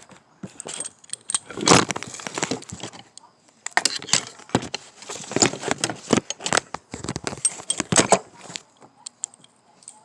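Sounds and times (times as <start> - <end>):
metal tools clinking: 0.4 - 10.0.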